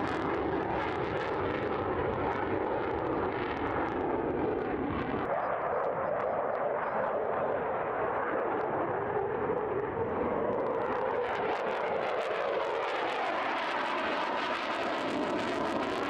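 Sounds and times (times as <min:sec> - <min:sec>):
jet engine in flight: 0:00.0 - 0:16.0.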